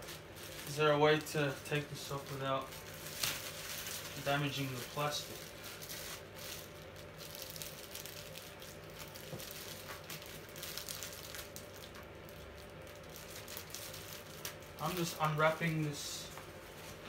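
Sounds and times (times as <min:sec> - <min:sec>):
plastic wrap crinkling: 0:00.0 - 0:17.0
steady low hum: 0:00.0 - 0:17.0.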